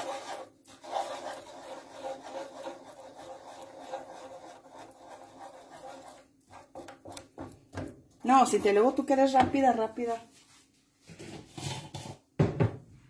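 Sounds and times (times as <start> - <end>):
wooden spatula scraping pan: 0.0 - 12.2.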